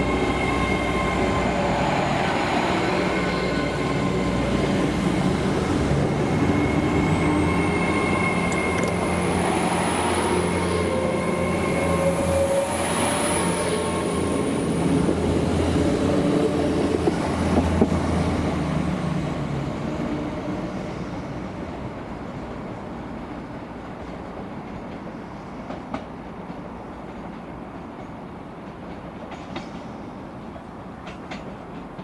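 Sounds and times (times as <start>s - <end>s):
rail and wheel noise: 0.0s - 32.0s
train diesel engine drone: 0.0s - 32.0s.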